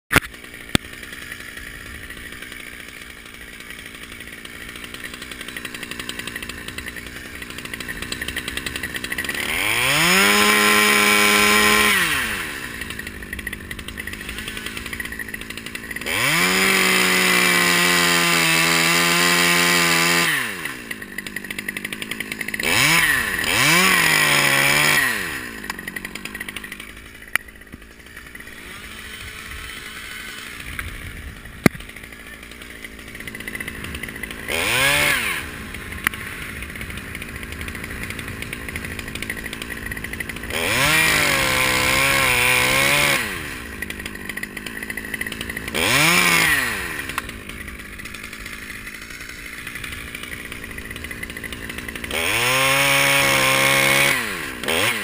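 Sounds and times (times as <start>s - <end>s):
chainsaw idling and revving: 0.1s - 55.0s.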